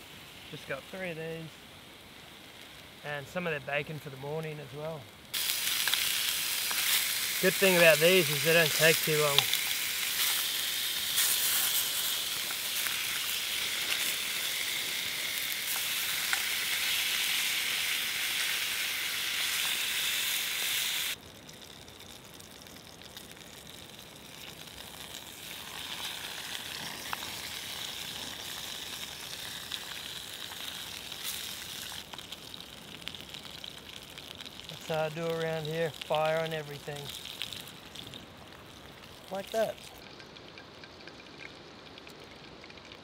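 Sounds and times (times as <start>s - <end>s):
meat sizzling in a pan: 5.3s - 40.2s.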